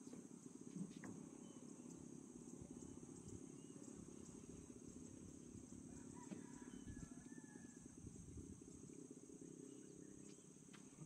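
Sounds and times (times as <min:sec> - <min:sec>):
faint insect chorus: 0:00.0 - 0:11.0
low rough background noise: 0:00.0 - 0:11.0.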